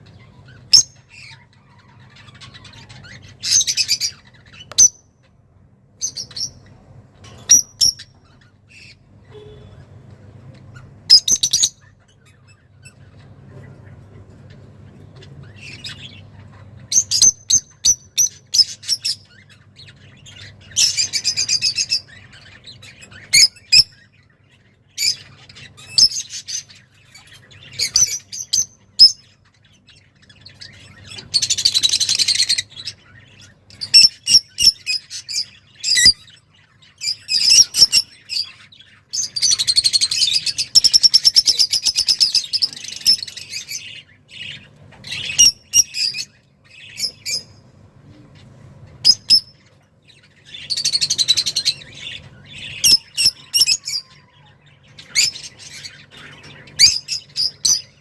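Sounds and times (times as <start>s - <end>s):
songbird chirps and trills: 0.0s - 58.0s.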